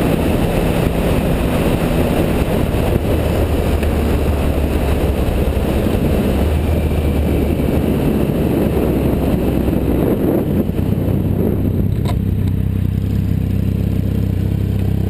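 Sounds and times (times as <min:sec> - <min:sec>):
wind buffeting microphone: 0:00.0 - 0:13.0
motorcycle engine cruising: 0:00.0 - 0:15.0.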